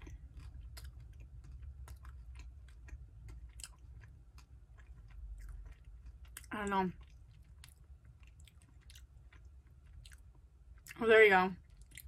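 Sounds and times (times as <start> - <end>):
faint chewing: 0.0 - 11.0, 11.6 - 12.0.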